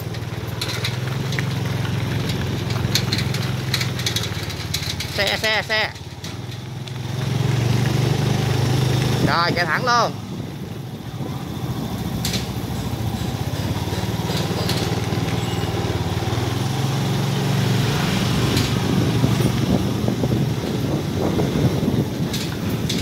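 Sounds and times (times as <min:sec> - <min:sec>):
motorbike engine running: 0:00.0 - 0:23.0.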